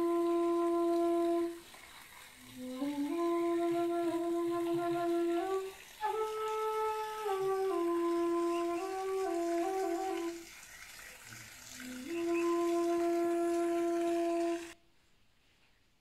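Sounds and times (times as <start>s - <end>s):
slow solo flute melody: 0.0s - 1.6s, 2.5s - 10.6s, 11.6s - 14.8s.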